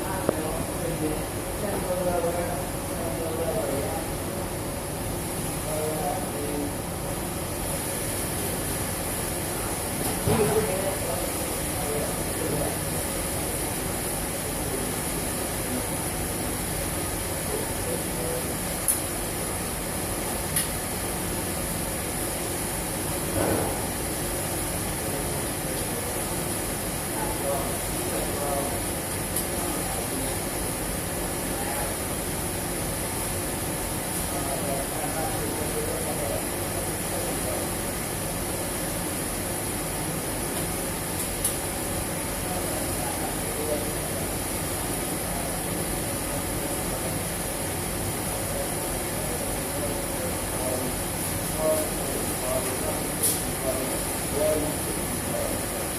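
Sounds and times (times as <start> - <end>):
machinery hiss and hum: 0.0 - 55.9.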